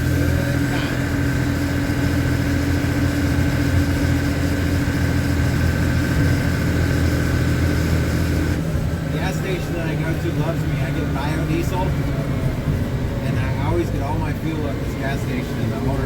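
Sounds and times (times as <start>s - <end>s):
truck diesel engine drone: 0.0s - 16.0s.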